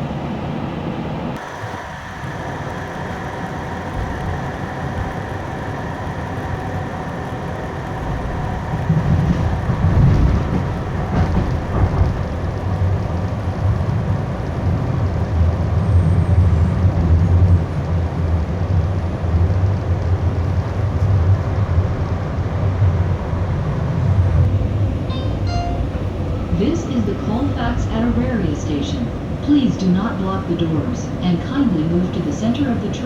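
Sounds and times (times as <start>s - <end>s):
train wheels rumbling on track: 0.0s - 33.0s.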